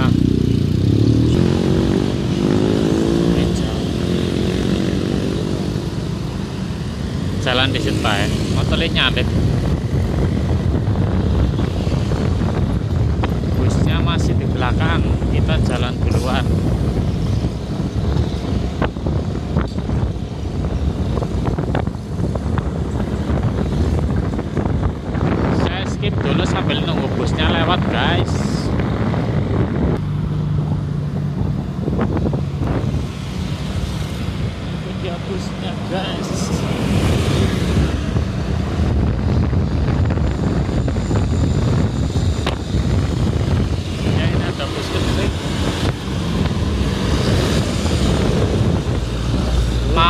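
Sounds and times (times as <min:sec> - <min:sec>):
motorcycle engine and road rumble: 0:00.0 - 0:50.0
wind buffeting microphone: 0:00.0 - 0:50.0.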